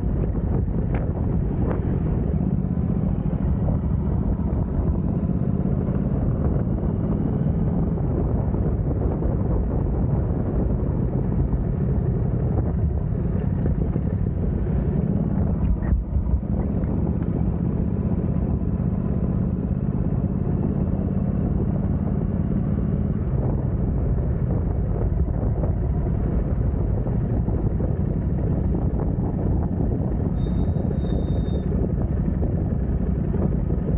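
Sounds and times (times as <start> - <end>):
car engine drone: 0.0 - 33.9
road rumble: 0.0 - 33.9.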